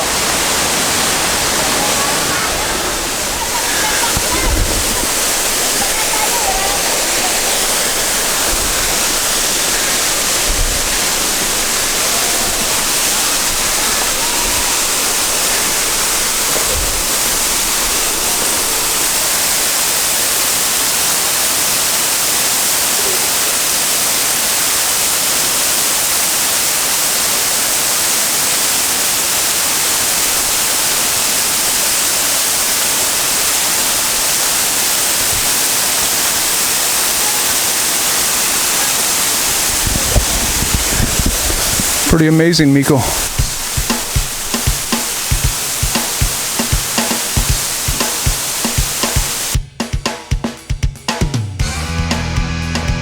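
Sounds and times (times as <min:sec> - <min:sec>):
waterfall rushing: 0:00.0 - 0:49.6.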